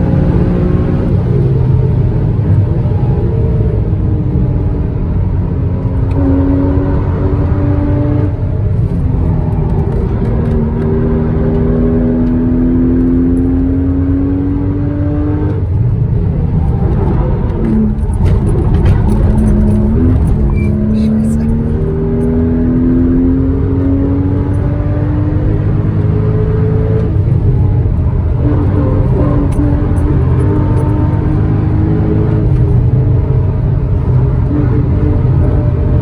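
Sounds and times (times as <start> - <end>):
car engine revving under load: 0.0 - 36.0
road and wind rumble: 0.0 - 36.0.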